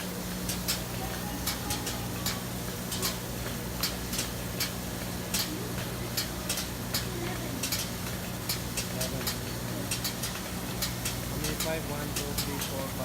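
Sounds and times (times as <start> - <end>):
milking machine humming: 0.0 - 13.0
pulsator hissing clicks: 0.2 - 13.0.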